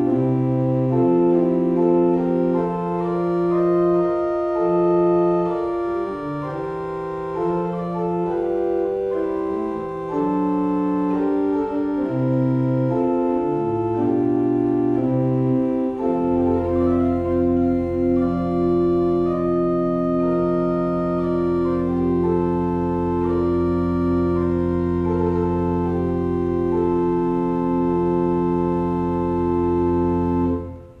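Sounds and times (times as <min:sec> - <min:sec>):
low bass organ note: 0:00.0 - 0:31.0
slow organ piece: 0:00.0 - 0:31.0.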